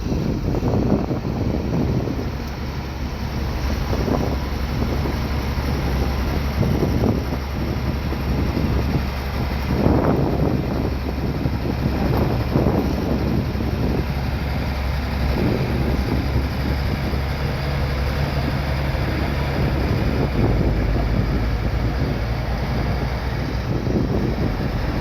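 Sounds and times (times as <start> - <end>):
bulldozer diesel engine running: 0.0 - 25.0
wind noise on microphone: 0.0 - 25.0.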